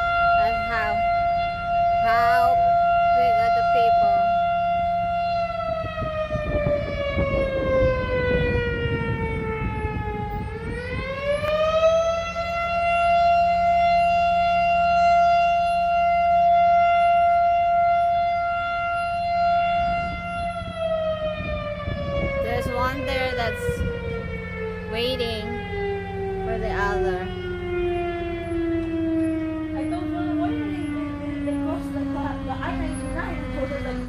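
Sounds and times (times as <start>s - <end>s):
siren wailing: 0.0s - 34.0s.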